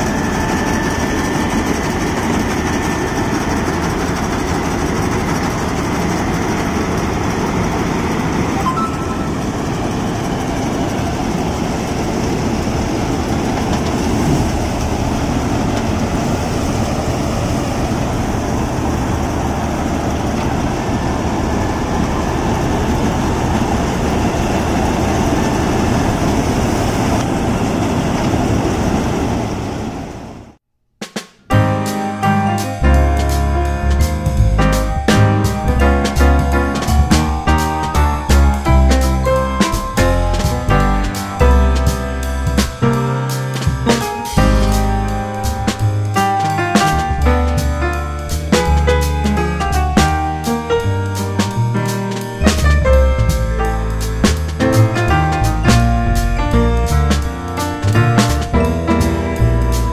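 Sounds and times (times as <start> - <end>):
combine harvester running: 0.0 - 30.6, 32.7 - 59.9.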